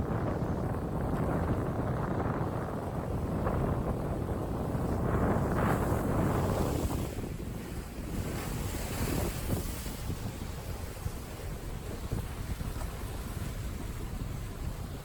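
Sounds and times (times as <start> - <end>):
sea waves: 0.0 - 15.0
wind buffeting microphone: 0.0 - 15.0.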